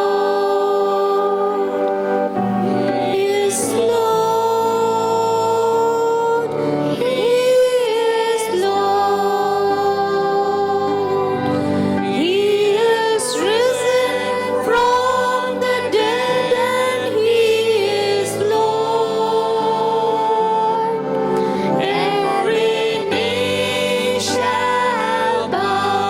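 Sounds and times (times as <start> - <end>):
instrumental accompaniment: 0.0 - 26.0
worship song vocals: 0.0 - 26.0.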